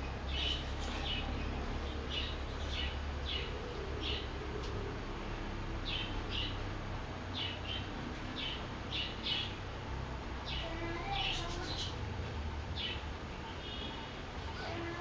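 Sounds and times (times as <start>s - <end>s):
bird chirping: 0.0s - 4.9s, 5.8s - 6.7s, 7.3s - 15.0s.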